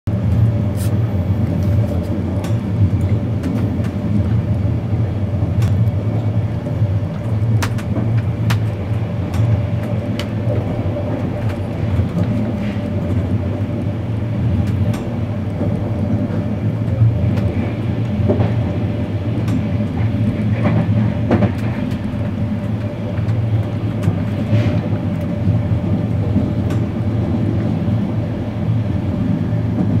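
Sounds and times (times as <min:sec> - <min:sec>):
wheels clicking on track: 0:00.1 - 0:28.6
train rumble: 0:00.1 - 0:30.0.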